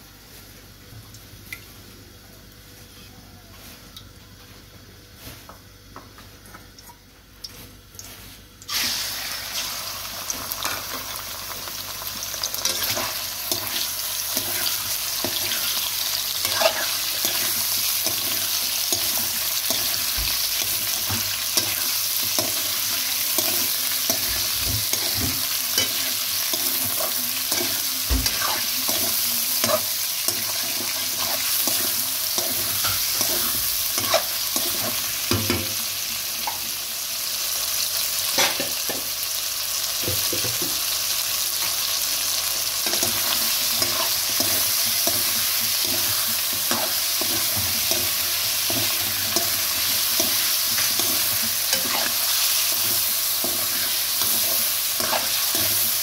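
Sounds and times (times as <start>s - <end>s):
chicken sizzling in hot oil: 8.0s - 56.0s.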